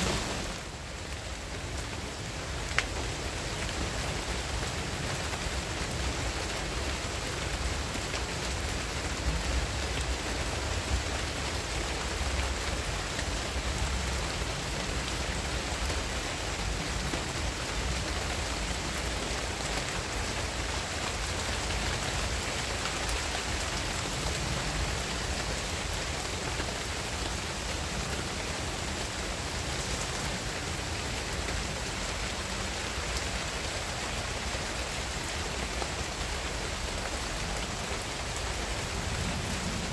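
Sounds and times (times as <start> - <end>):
rain pattering on foliage: 0.0 - 39.9.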